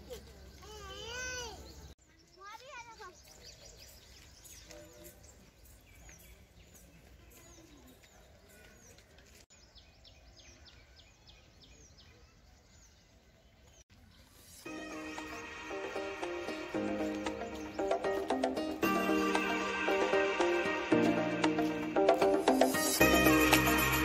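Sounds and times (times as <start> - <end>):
small birds chirping: 0.0 - 20.5.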